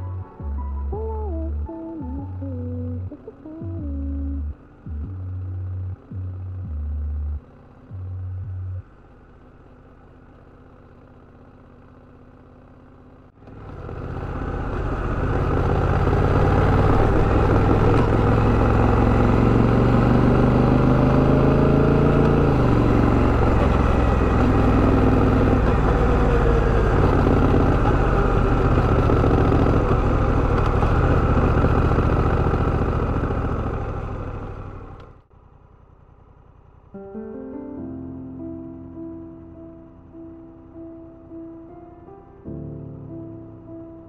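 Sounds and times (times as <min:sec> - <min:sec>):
motorcycle engine pulling away: 0:00.9 - 0:37.6.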